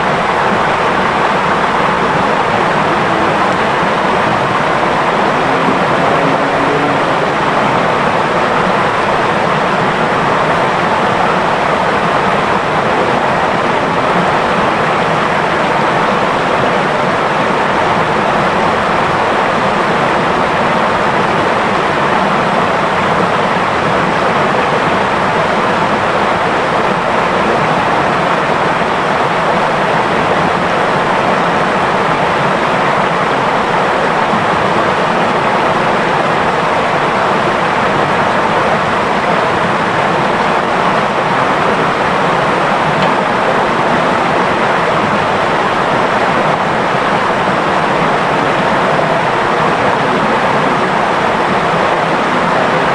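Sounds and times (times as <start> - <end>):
river water babbling: 0.0 - 52.9.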